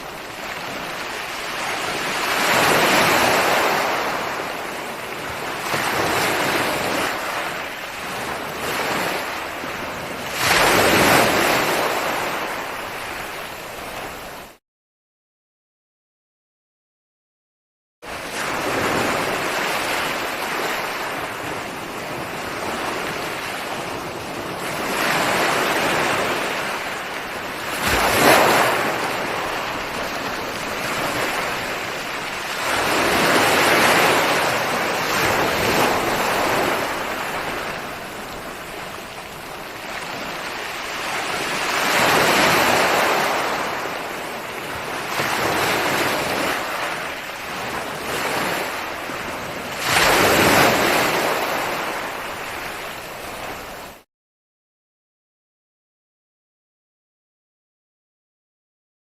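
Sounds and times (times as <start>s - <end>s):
ocean waves breaking on shore: 0.0s - 14.6s, 18.0s - 54.1s.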